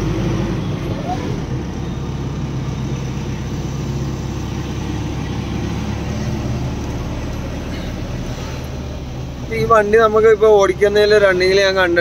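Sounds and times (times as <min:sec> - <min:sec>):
diesel truck engine running: 0:00.0 - 0:12.0
tyre and road noise: 0:00.0 - 0:12.0.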